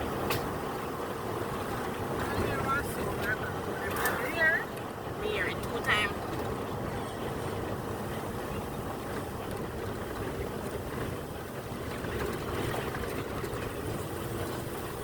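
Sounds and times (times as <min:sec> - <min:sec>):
car engine hum: 0:00.0 - 0:15.0
tyre road noise: 0:00.0 - 0:15.0.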